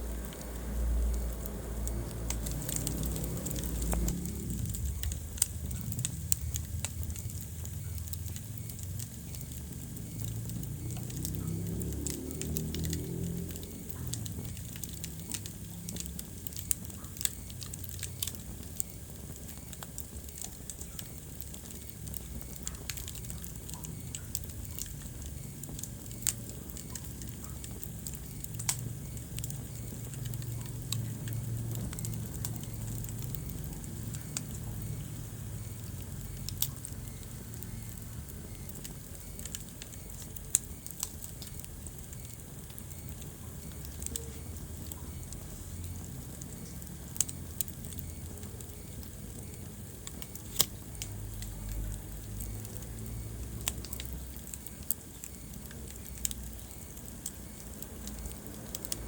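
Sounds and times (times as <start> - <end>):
burning logs crackling and popping: 0.0 - 59.0
fire flames rumbling: 0.0 - 59.0.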